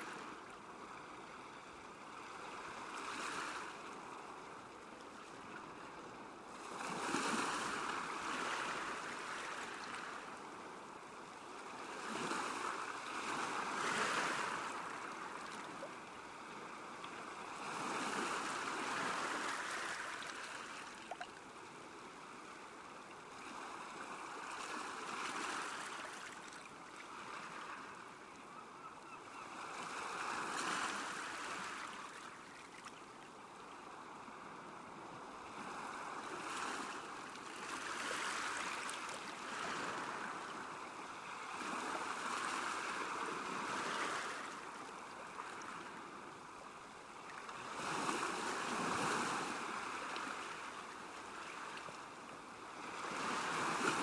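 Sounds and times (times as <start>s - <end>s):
small waves washing onto shore: 0.0s - 28.4s, 29.3s - 54.0s.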